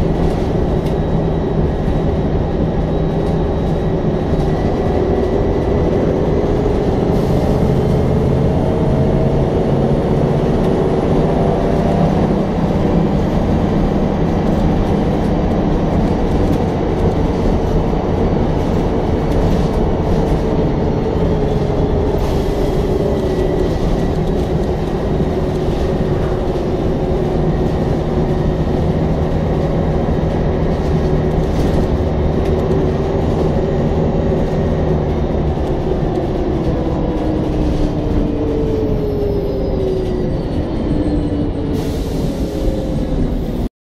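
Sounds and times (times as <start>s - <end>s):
bus engine drone: 0.0s - 43.7s
transmission whine: 0.0s - 43.7s.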